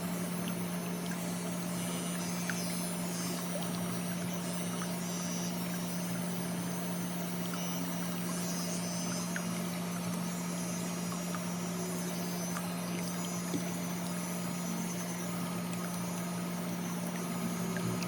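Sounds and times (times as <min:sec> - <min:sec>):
electric motor hum: 0:00.0 - 0:18.0.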